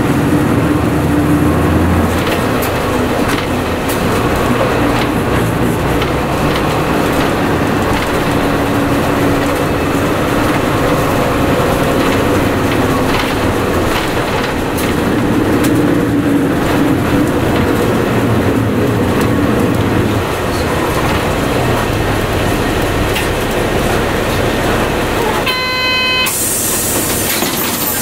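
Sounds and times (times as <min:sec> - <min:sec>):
bus diesel engine drone: 0:00.0 - 0:28.0
road rumble: 0:00.0 - 0:28.0
light body rattles: 0:01.9 - 0:25.2.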